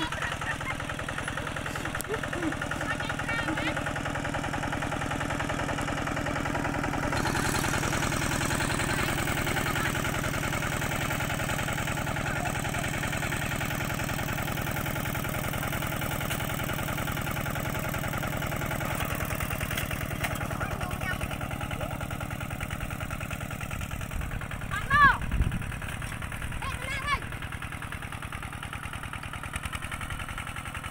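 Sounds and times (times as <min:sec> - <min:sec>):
tractor engine running: 0:00.0 - 0:30.9.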